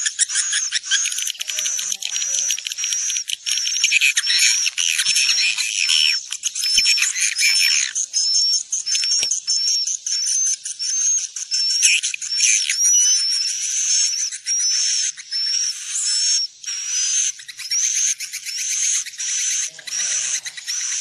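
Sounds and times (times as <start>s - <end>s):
swiftlets twittering chatter: 0.0s - 21.0s.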